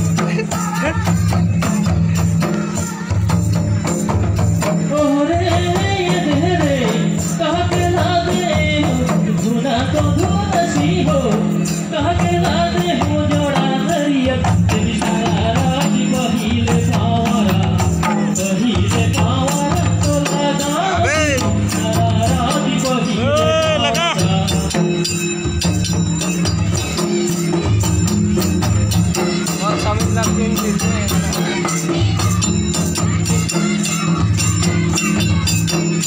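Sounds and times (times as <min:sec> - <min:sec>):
hand drums beating: 0:00.0 - 0:36.0.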